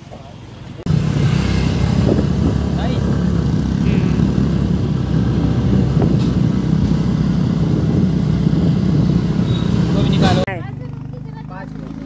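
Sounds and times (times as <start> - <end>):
motor scooter engine rumble: 0.0 - 12.0
road noise: 0.0 - 12.0.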